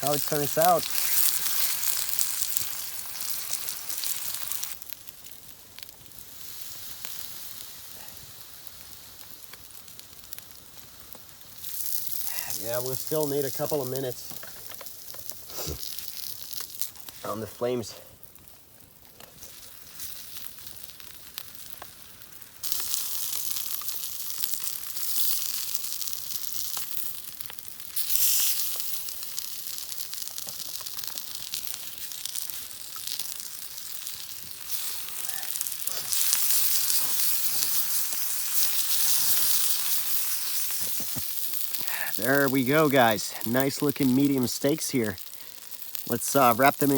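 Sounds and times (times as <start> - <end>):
steaks sizzling in oil: 0.0 - 17.2, 19.4 - 46.9.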